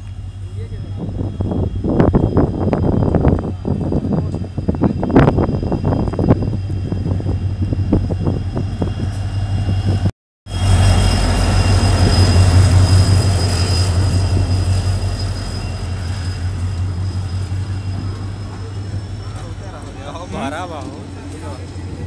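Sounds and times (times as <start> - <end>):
diesel locomotive engine hum: 0.0 - 22.0
rumble of train wheels: 0.0 - 22.0.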